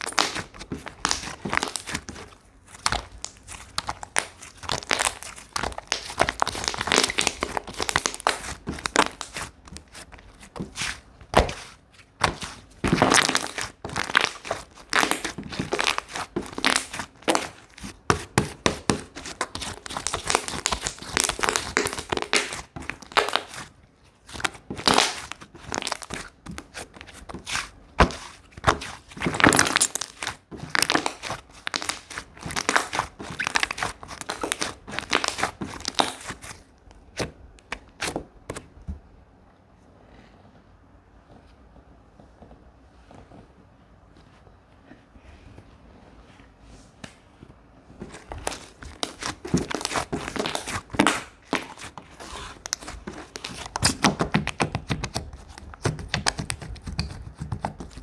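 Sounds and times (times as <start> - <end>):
hands squishing slime: 0.0 - 38.8, 48.0 - 58.0.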